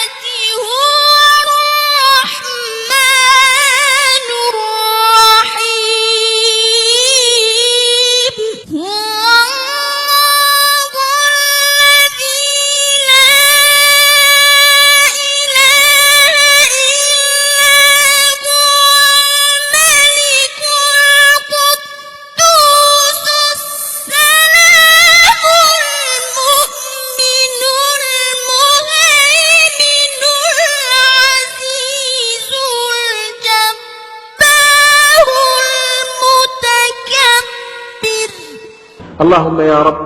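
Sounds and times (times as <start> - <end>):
person singing unaccompanied: 0.0 - 39.0.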